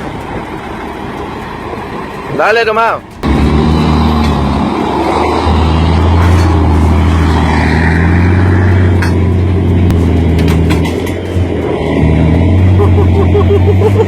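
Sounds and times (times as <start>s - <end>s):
road rumble: 0.0s - 14.0s
vehicle engine droning: 0.0s - 14.0s.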